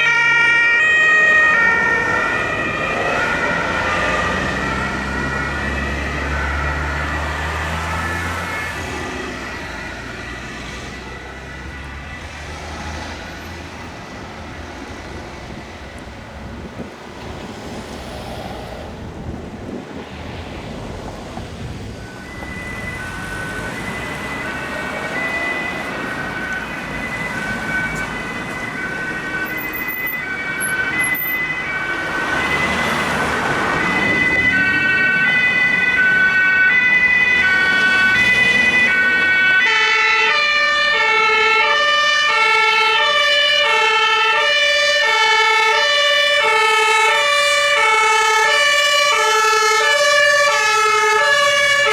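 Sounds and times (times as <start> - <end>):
two-tone emergency siren: 0.0 - 17.0, 21.3 - 51.9
road and engine noise: 0.0 - 51.9.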